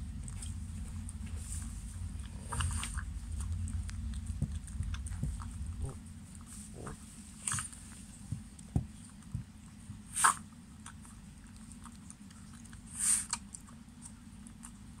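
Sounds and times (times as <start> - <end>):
dog licking and eating: 0.0 - 15.0.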